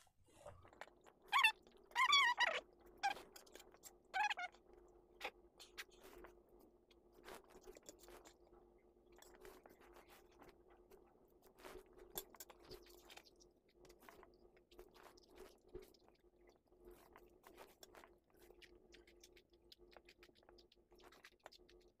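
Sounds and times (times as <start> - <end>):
chewing and crunching food: 0.3 - 22.0.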